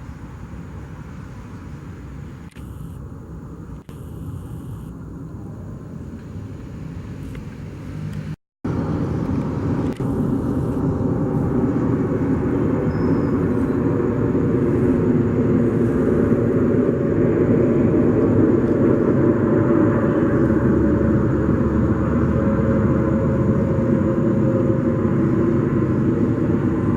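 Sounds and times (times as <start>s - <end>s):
airliner engines rumbling: 0.0s - 26.9s.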